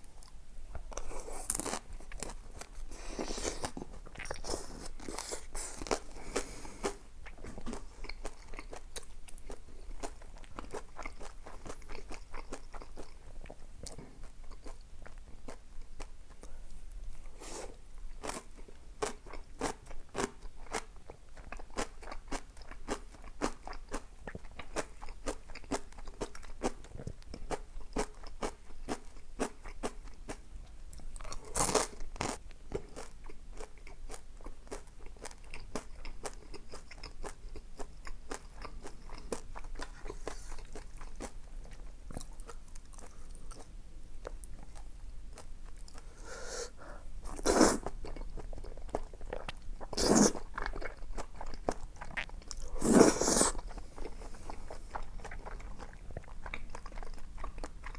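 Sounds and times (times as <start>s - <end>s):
person chewing crunchy food: 0.2s - 16.5s, 17.4s - 57.9s.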